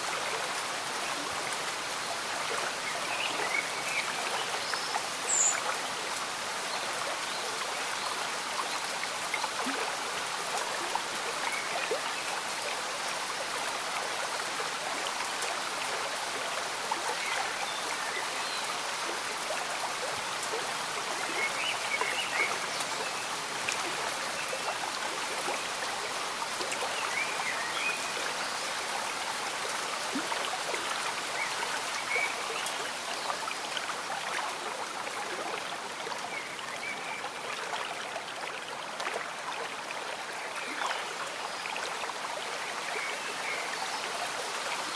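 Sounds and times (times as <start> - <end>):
gentle rain falling: 0.0 - 44.9
stream bubbling and trickling: 0.0 - 44.9.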